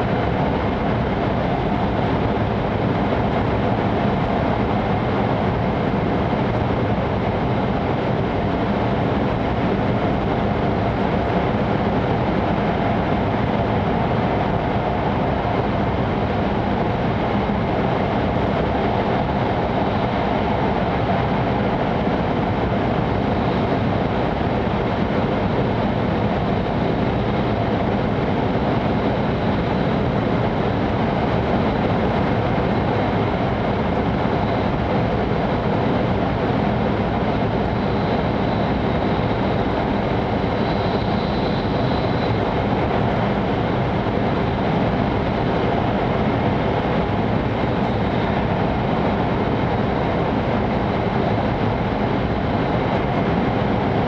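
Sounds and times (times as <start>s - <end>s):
high-speed train rumble in tunnel: 0.0s - 54.0s.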